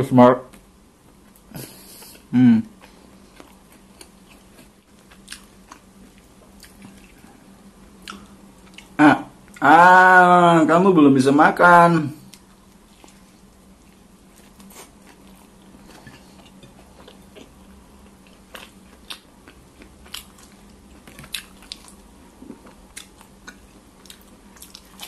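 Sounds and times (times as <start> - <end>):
faint steady hum: 0.0 - 25.0
person chewing food: 0.5 - 9.6, 12.2 - 25.0.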